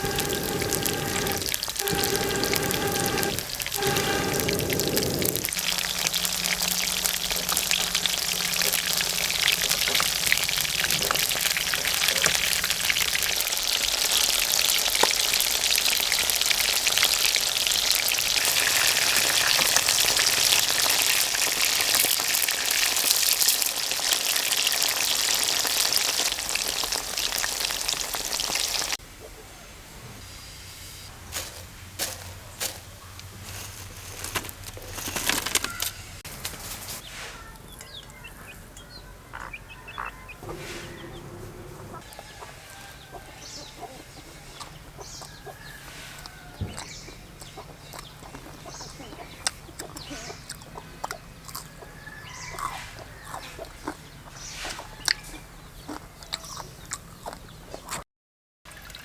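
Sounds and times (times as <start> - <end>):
chicken deep-frying in hot oil: 0.0 - 36.3, 42.0 - 58.0, 58.7 - 59.0.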